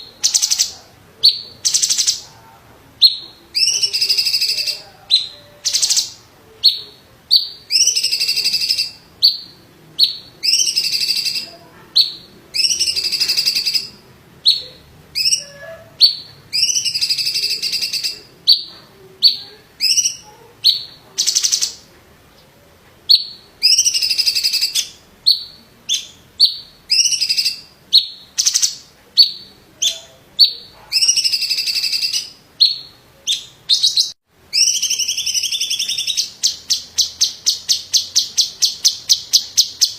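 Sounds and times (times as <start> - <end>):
bird singing sharp trills: 3.0 - 21.8, 23.1 - 39.9.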